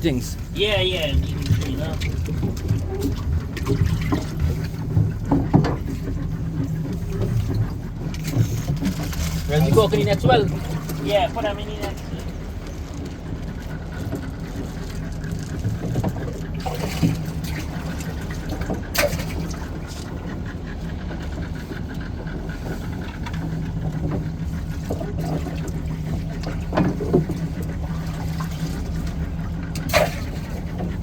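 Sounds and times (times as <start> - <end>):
boat motor humming: 0.0 - 31.0.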